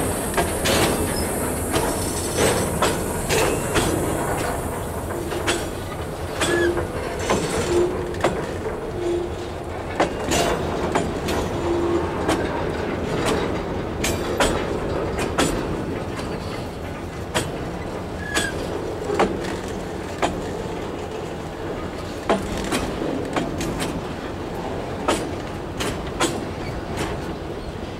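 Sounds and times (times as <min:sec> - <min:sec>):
train wheels rumbling on rail: 0:00.0 - 0:27.9
wheels clacking over rail joints: 0:00.0 - 0:27.9.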